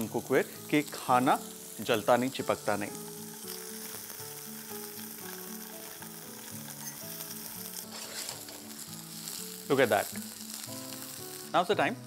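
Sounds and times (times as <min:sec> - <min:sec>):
cheese cubes sizzling in a pan: 0:00.0 - 0:12.0
soft background music: 0:00.0 - 0:12.0.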